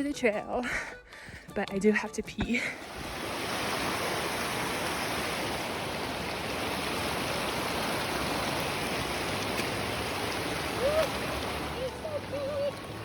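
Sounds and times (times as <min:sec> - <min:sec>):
flowing stream water: 0:02.4 - 0:13.0.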